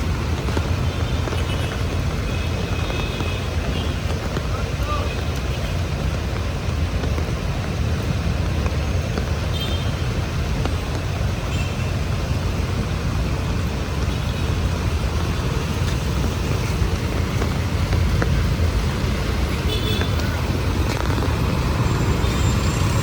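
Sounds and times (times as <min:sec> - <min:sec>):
heavy rain hissing: 0:00.0 - 0:23.0
passing vehicles rumbling: 0:00.0 - 0:23.0.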